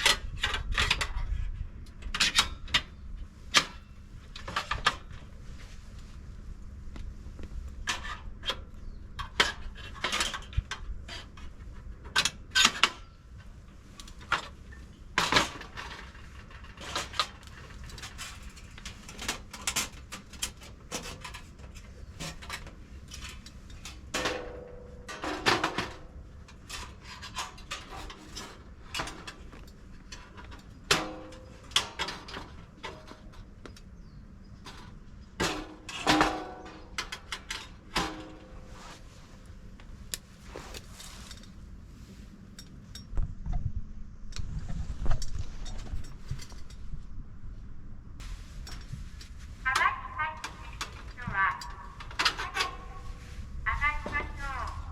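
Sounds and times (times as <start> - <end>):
metal camping gear clanking: 0.0 - 43.2, 45.6 - 47.0, 48.2 - 54.6.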